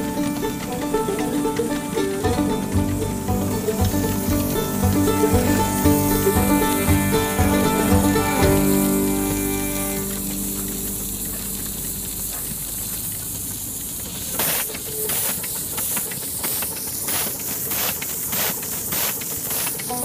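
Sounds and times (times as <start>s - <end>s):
steam hissing: 0.0s - 20.0s
steam locomotive chuffing: 0.0s - 20.0s.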